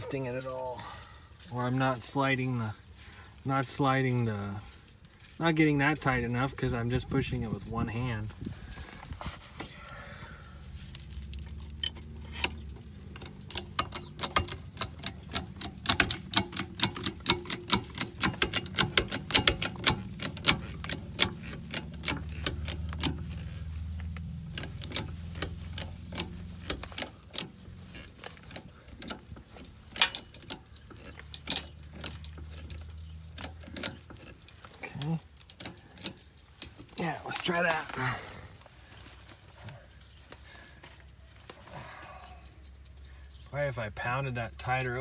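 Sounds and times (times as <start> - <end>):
wood creaking and cracking: 0.0 - 43.4.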